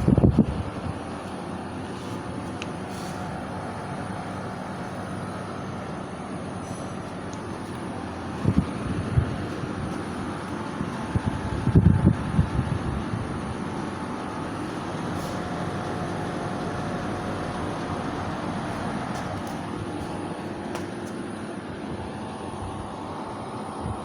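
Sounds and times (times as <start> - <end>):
air conditioner unit humming: 0.0 - 24.0.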